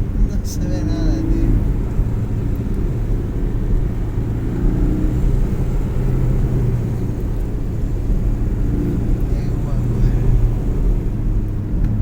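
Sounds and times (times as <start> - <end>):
road and tyre noise: 0.0 - 12.0.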